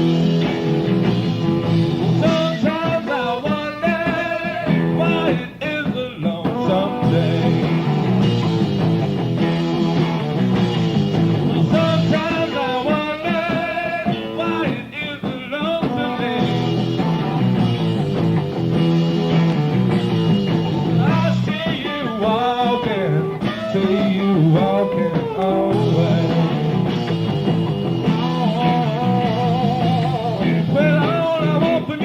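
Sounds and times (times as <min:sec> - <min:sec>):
bass: 0:00.0 - 0:32.0
electric guitar: 0:00.0 - 0:32.0
rock band playing live: 0:00.0 - 0:32.0.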